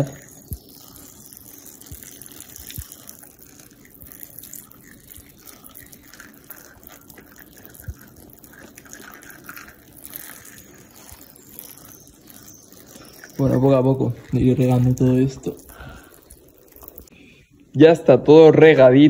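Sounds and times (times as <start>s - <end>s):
water splashing onto plants: 0.0s - 17.1s.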